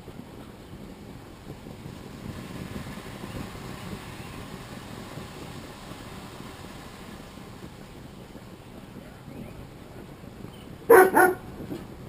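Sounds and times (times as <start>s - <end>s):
gas flames burning: 0.0s - 12.0s.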